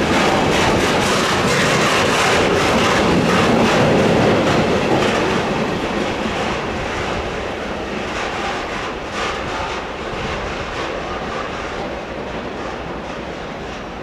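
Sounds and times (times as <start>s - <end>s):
freight train wheels on rails: 0.0s - 14.0s.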